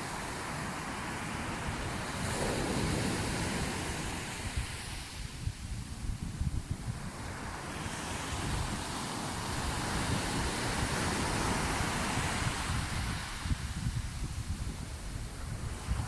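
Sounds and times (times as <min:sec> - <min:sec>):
waves washing in: 0:00.0 - 0:06.0, 0:06.7 - 0:16.0
wind buffeting microphone: 0:00.3 - 0:16.0.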